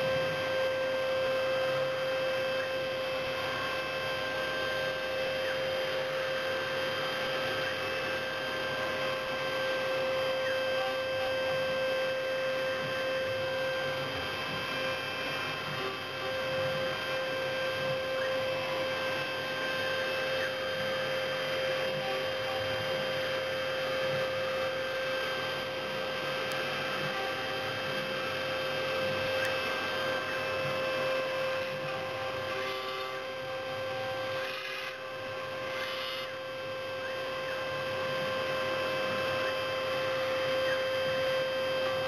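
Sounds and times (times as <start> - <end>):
milling machine spindle whine: 0.0 - 42.0.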